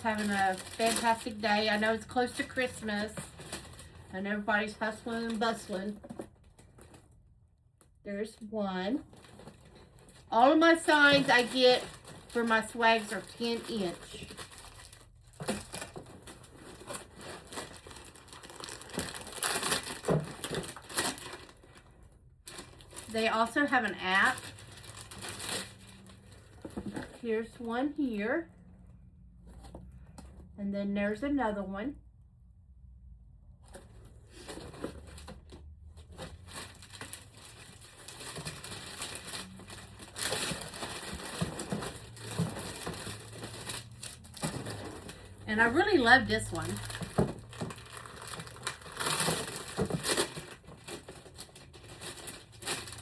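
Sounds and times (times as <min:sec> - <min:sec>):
plastic packaging crinkling: 0:00.0 - 0:07.2, 0:09.0 - 0:27.2, 0:34.0 - 0:53.0.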